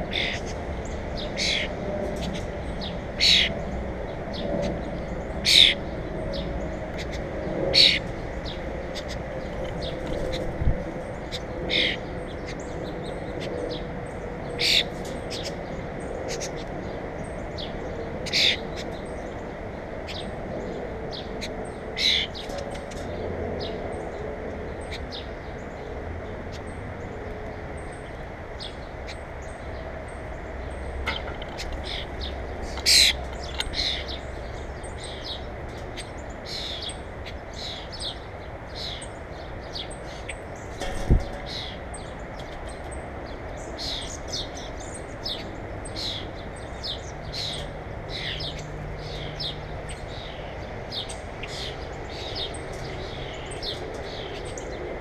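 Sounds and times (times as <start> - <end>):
steady outdoor hiss: 0.0 - 55.0.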